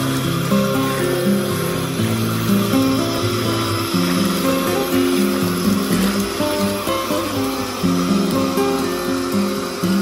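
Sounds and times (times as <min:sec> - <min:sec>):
bubbling bath water: 0:00.0 - 0:10.0.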